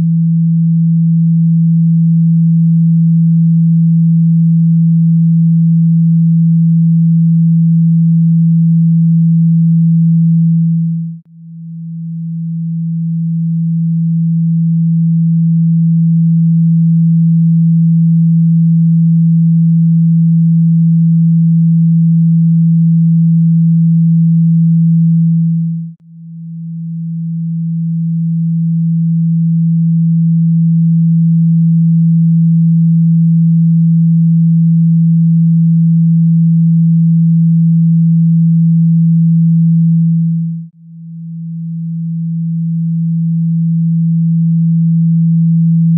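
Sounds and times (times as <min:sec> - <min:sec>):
low steady pure tone: 0:00.0 - 0:45.9.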